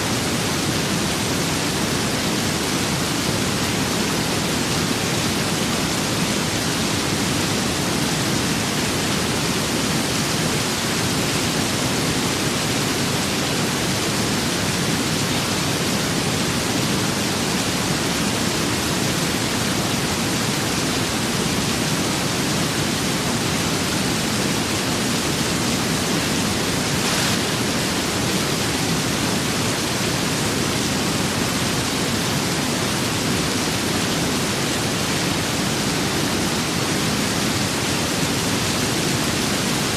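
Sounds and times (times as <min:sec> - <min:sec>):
rain with wind: 0:00.0 - 0:39.9.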